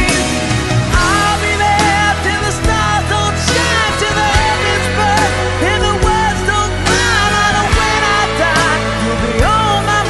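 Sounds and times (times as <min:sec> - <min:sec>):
person singing: 0:00.0 - 0:10.0
rock love song: 0:00.0 - 0:10.0.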